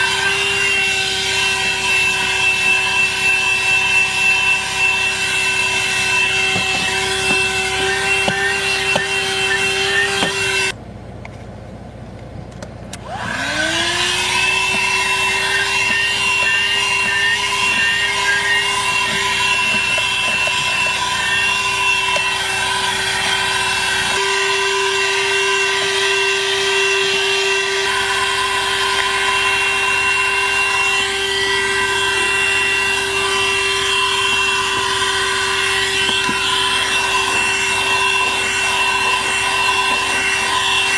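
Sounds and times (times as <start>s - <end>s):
handheld vacuum motor whine: 0.0s - 10.8s, 13.0s - 40.9s.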